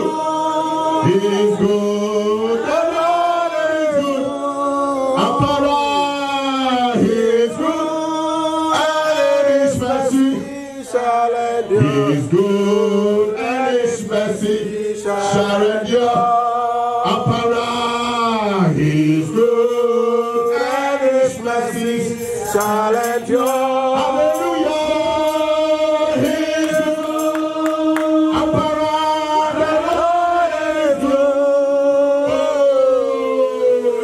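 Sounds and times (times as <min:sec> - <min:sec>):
man singing worship song: 0:00.0 - 0:34.0.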